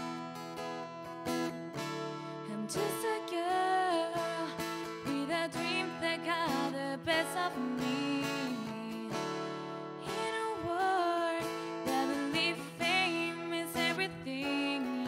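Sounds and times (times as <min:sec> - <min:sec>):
strummed acoustic guitar: 0:00.0 - 0:15.0
woman singing: 0:02.3 - 0:15.0.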